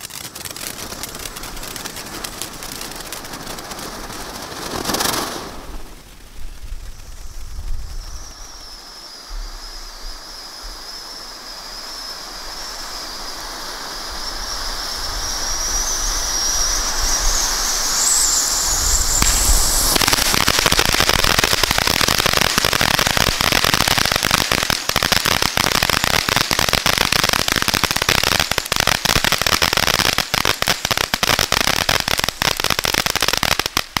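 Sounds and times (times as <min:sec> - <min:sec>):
dense firework crackling: 0:00.0 - 0:34.0
firework fountain hissing and whining: 0:00.0 - 0:34.0.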